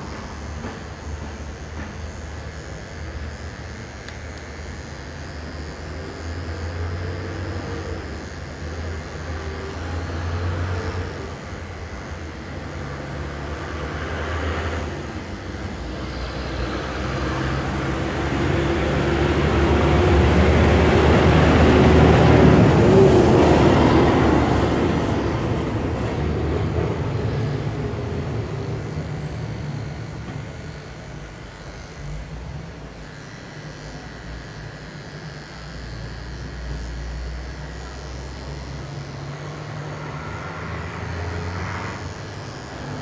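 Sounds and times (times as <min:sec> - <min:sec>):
electric hair clippers buzzing: 0:00.0 - 0:43.0.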